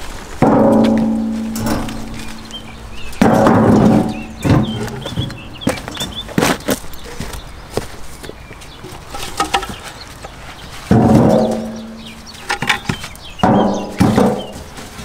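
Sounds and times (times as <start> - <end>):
logs clanging into metal wheelbarrow: 0.3 - 6.8, 8.8 - 15.0.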